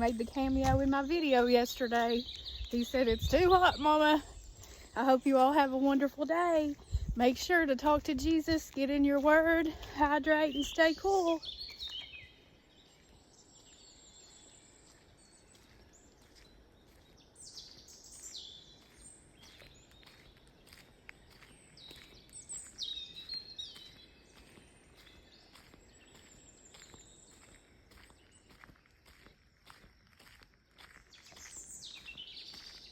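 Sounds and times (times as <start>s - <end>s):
wild birds singing and calling: 0.0s - 7.4s, 9.7s - 28.8s, 31.1s - 32.9s
faint footsteps: 0.0s - 12.2s, 14.8s - 32.9s.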